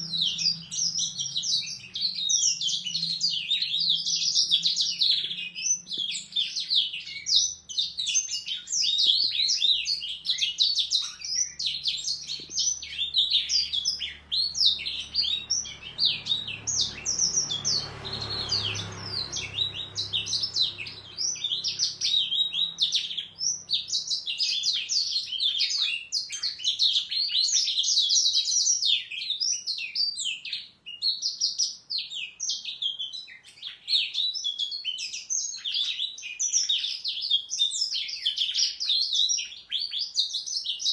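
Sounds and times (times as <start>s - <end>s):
canaries singing: 0.0s - 40.9s.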